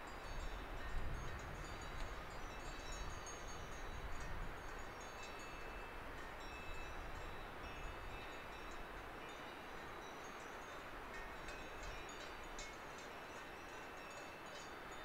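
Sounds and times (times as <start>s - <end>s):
faint bells clinking: 0.0s - 15.0s.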